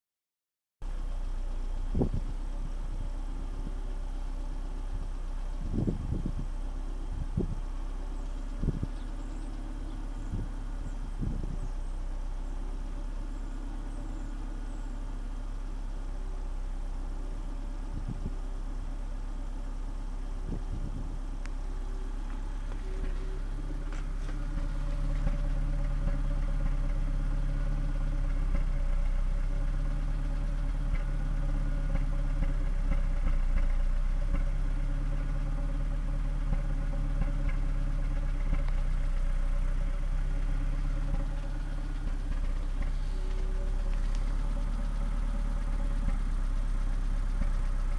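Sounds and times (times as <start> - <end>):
car engine idling: 0.8 - 47.9.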